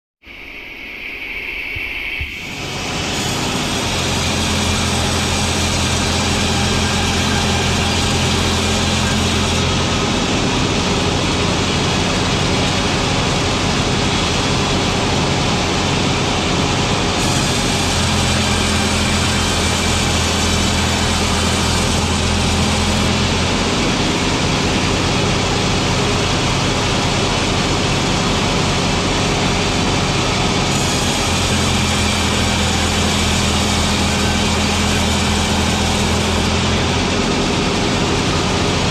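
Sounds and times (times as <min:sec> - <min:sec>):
machinery humming: 0:00.3 - 0:38.9.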